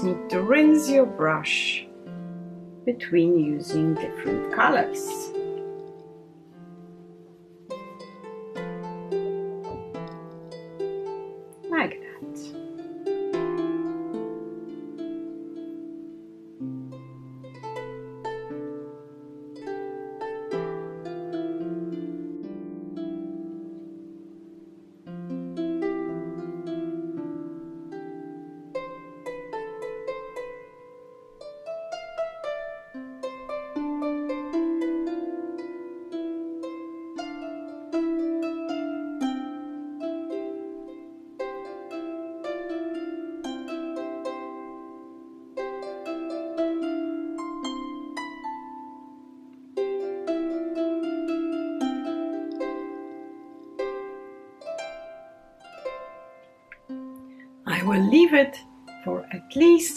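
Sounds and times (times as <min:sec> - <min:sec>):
harp plucked notes: 0:00.0 - 0:59.9.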